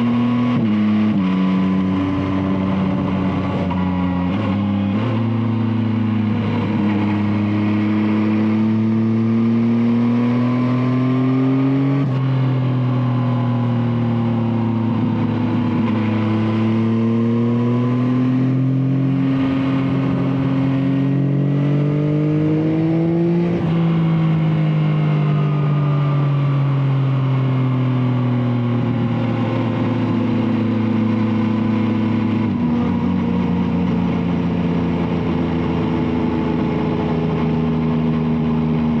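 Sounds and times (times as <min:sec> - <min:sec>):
motorcycle engine while riding: 0:00.0 - 0:39.0.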